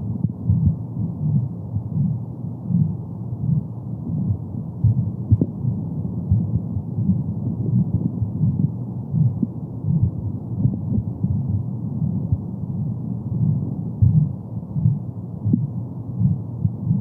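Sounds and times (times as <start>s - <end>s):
muffled low whooshing: 0.0s - 17.0s
pulsing heartbeat: 0.0s - 17.0s.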